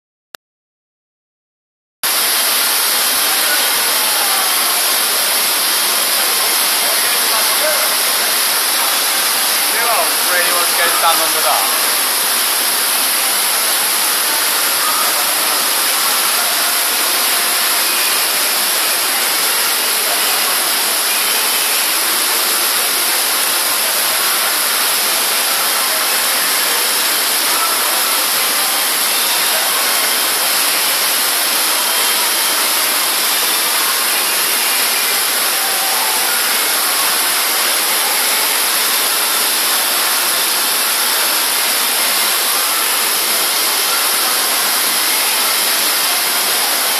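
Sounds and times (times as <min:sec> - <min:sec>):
heavy rain on a roof: 0:02.1 - 0:46.9.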